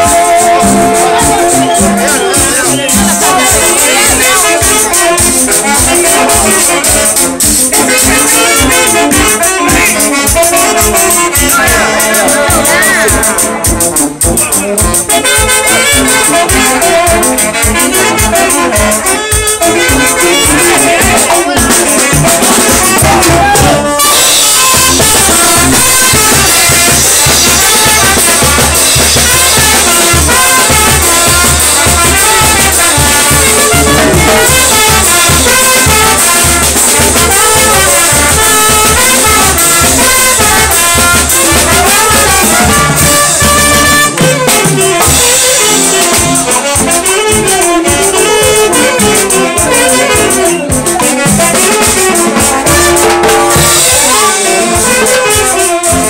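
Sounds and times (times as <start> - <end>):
steady drum beat: 0.0 - 56.0
trumpets and trombones melody: 0.0 - 56.0.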